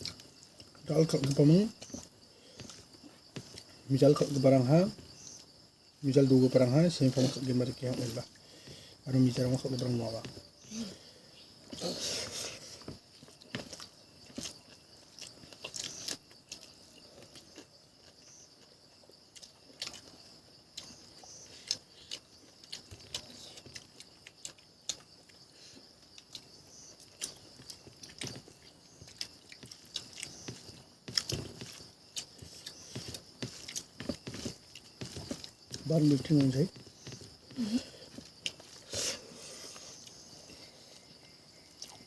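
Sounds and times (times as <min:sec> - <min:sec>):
person chewing and smacking food: 0:00.0 - 0:05.6, 0:11.6 - 0:38.9, 0:39.7 - 0:42.0
crunches while eating: 0:06.2 - 0:42.0.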